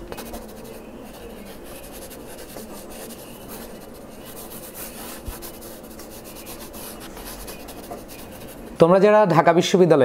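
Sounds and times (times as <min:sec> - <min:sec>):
pen scratching on paper: 0:00.0 - 0:08.7.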